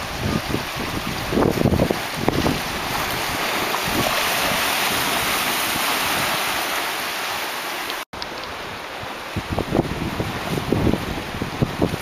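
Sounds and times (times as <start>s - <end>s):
surf on rocky shore: 0.0s - 12.0s
wind: 0.0s - 12.0s.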